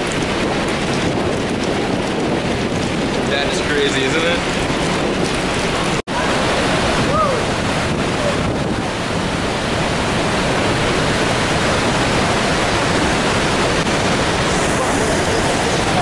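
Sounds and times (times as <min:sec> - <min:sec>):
waterfall rushing: 0:00.0 - 0:16.0
wind buffeting microphone: 0:00.0 - 0:16.0.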